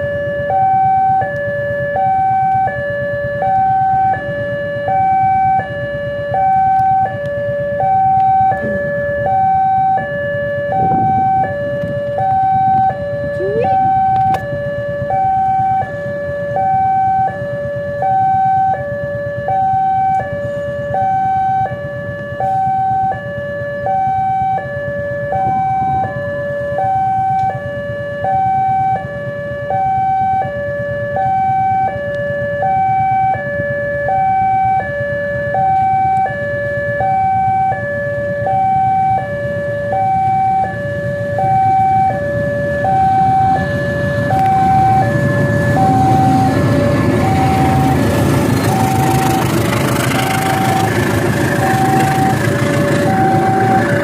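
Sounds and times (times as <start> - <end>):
level crossing two-tone alarm: 0.0 - 54.0.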